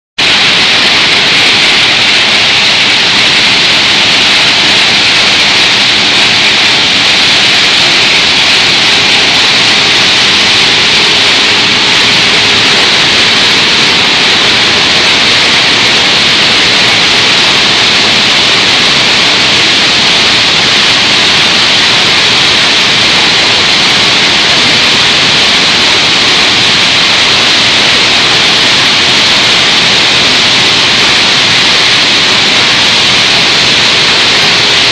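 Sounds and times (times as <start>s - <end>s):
industrial machinery rushing hiss: 0.2s - 34.9s.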